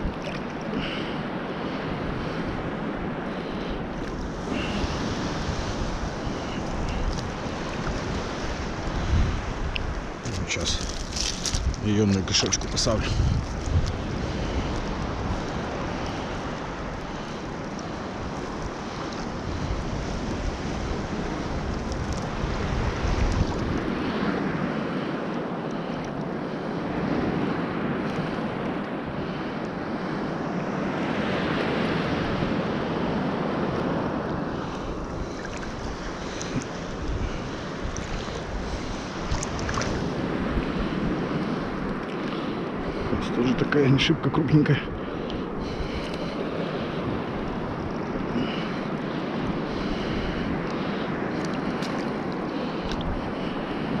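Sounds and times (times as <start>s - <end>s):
sea surf washing on shore: 0.0s - 54.0s
wind buffeting microphone: 0.0s - 54.0s.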